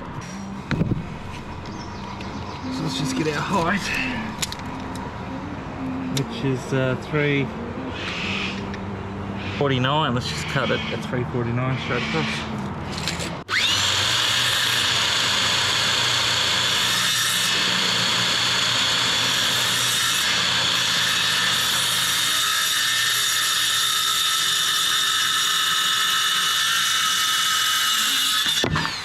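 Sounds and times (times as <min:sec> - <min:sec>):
power saw cutting wood: 0:00.3 - 0:04.9, 0:06.2 - 0:29.0.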